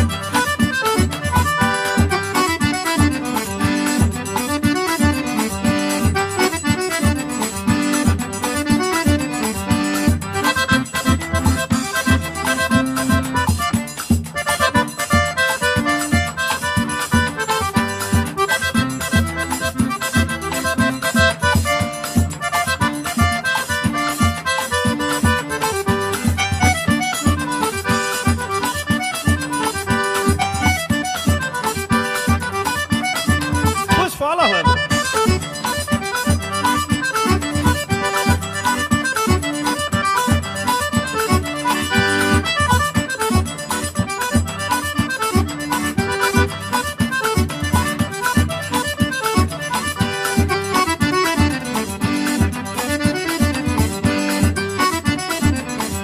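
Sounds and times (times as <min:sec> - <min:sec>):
instrumental music with steady beat: 0:00.0 - 0:56.0.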